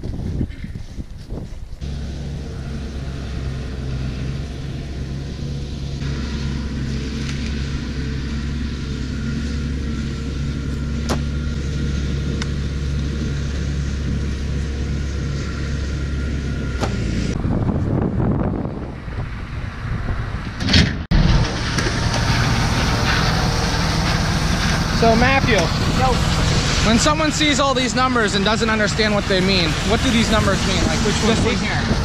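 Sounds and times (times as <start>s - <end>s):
diesel engine running: 1.8s - 32.0s
high whine: 1.8s - 32.0s.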